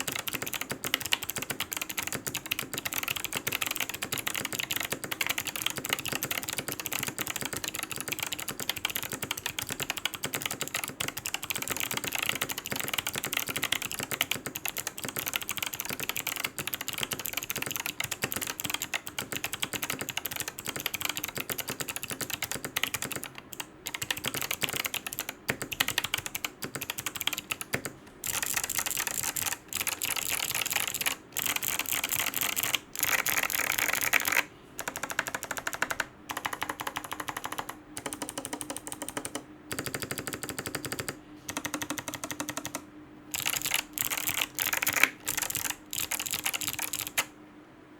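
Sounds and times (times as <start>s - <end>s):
mechanical keyboard typing: 0.0s - 47.3s.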